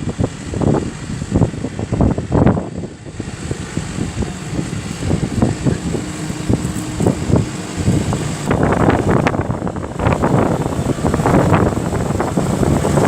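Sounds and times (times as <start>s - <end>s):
tractor engine running: 0.0s - 13.0s
wind buffeting microphone: 0.0s - 13.0s.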